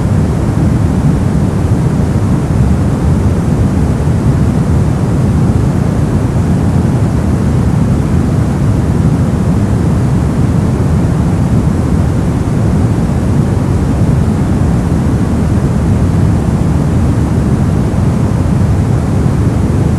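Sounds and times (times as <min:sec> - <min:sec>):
brown noise: 0:00.0 - 0:19.9.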